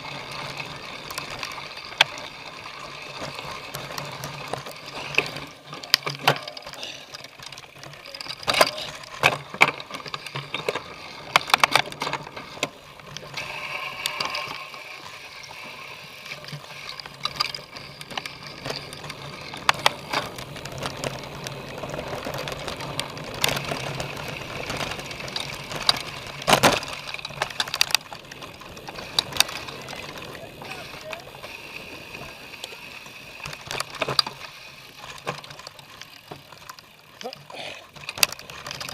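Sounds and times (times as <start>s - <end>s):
bike rattling over rough ground: 0.0s - 38.9s
tyres rolling: 0.0s - 38.9s.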